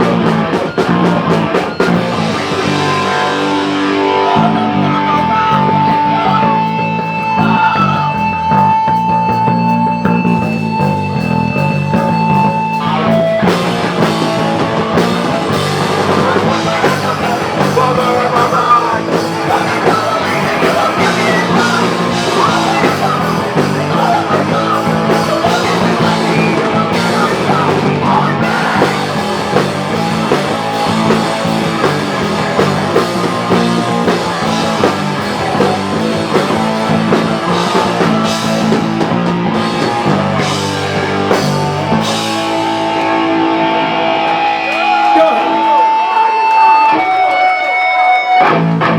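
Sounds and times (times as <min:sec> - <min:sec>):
pounding drums and bass: 0:00.0 - 0:46.6
punk rock band playing: 0:00.0 - 0:48.9
rock vocals: 0:00.0 - 0:48.9.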